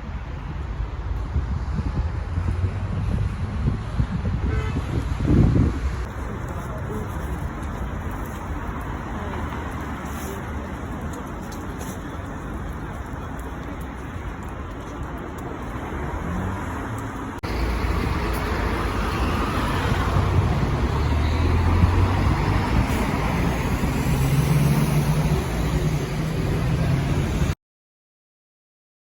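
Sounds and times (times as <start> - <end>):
cars and buses passing: 0.0 - 27.6.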